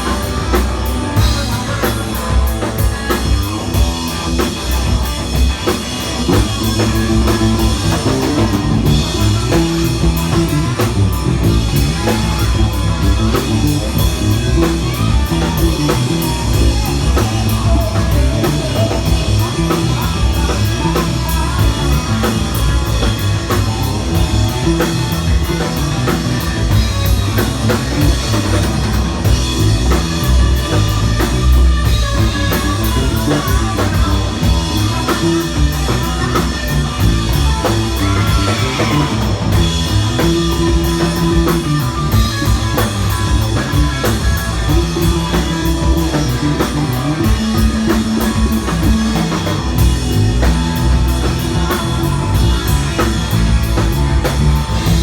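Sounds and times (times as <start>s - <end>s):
electric guitar melody: 0.0s - 55.0s
hard rock band playing: 0.0s - 55.0s
steady drum beat: 0.0s - 55.0s.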